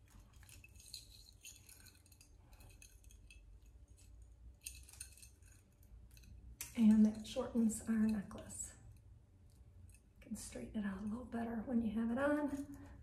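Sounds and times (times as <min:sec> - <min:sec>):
metal necklace chain clinking: 0:00.0 - 0:10.2, 0:12.4 - 0:13.0.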